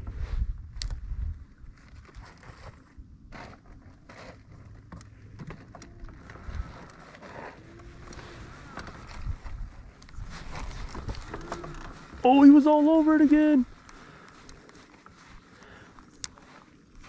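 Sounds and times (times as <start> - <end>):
wind and water against hull: 0.0 - 17.0.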